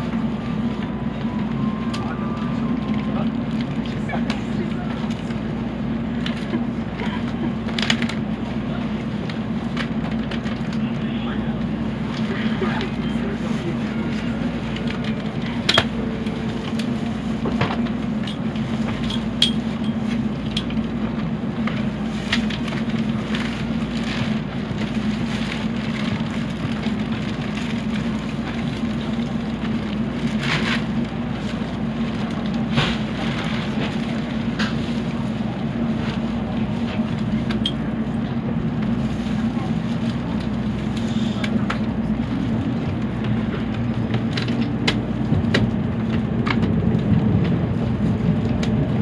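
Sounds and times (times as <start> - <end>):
train cabin rumble and hum: 0.0 - 49.0.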